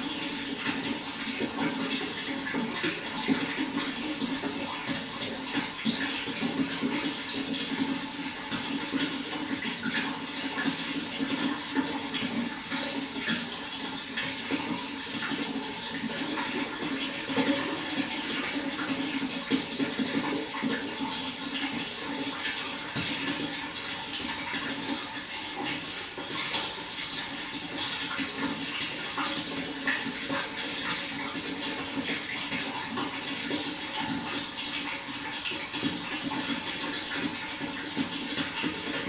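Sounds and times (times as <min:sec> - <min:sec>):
water flowing and splashing: 0:00.0 - 0:39.0.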